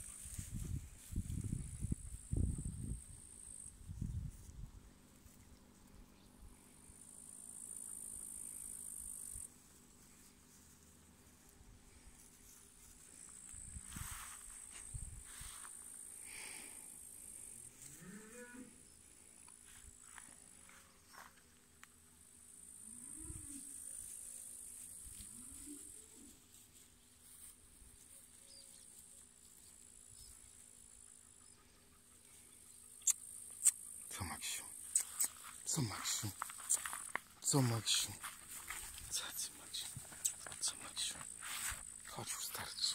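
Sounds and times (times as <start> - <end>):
faint high-pitched hiss: 0.0 - 42.9.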